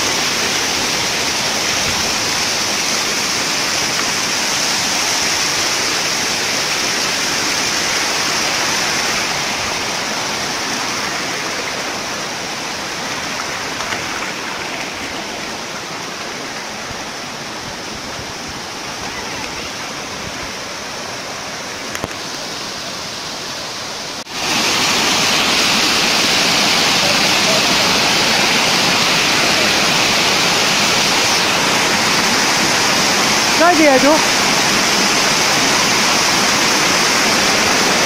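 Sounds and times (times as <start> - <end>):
waterfall rushing over rocks: 0.0 - 38.0.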